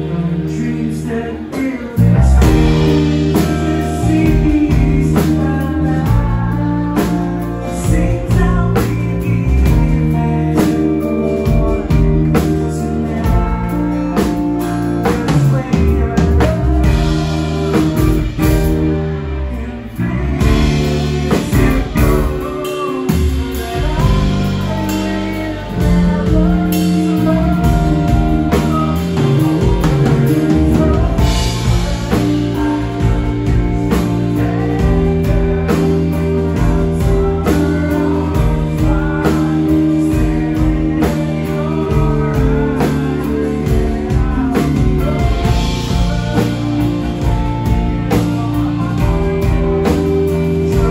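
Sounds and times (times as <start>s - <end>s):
drum kit: 0.0s - 50.9s
electric bass: 0.0s - 50.9s
guitars: 0.0s - 50.9s
keyboard: 0.0s - 50.9s.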